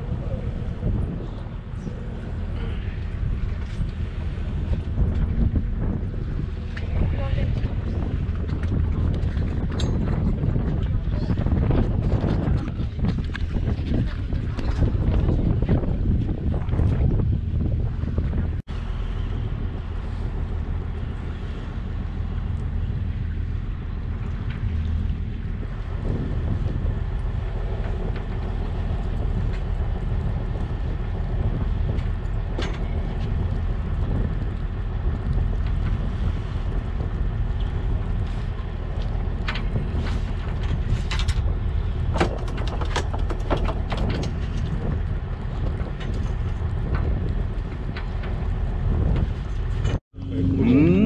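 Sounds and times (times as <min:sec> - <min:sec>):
boat engine humming: 0:00.0 - 0:51.0.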